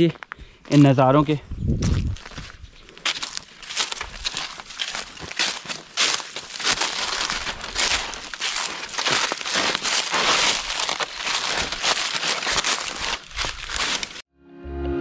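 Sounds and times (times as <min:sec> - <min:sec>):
footsteps crunching dry leaves: 0:01.8 - 0:14.2.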